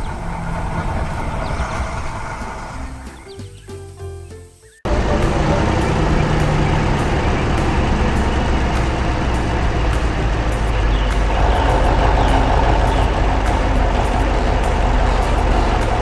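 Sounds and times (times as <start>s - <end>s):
heavy truck engine rumbling: 0.0s - 16.0s.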